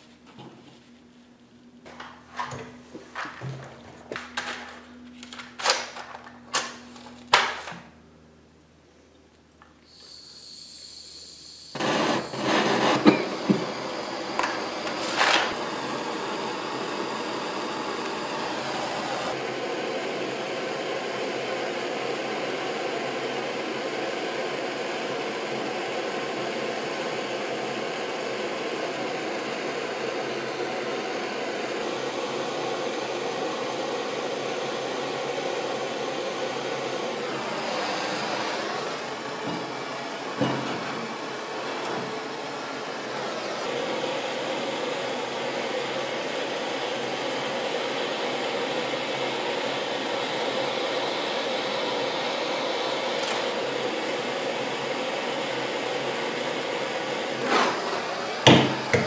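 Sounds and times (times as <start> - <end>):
propane torch hissing: 9.8 - 59.0.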